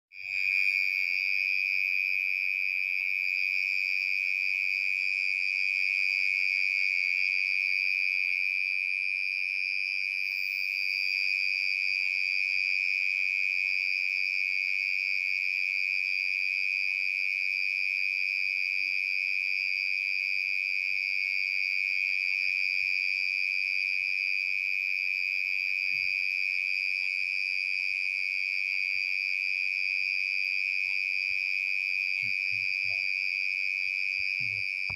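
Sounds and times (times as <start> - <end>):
cricket trilling: 0.2 - 34.9.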